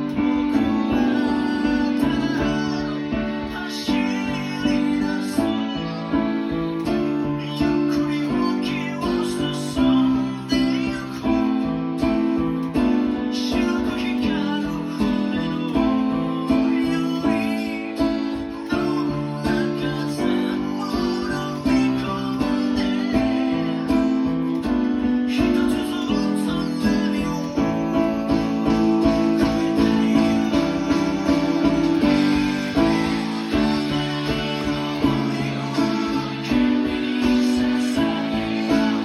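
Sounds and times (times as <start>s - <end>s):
drums: 0.0s - 39.0s
keyboard: 0.0s - 39.0s
strummed guitar chords: 0.0s - 39.0s.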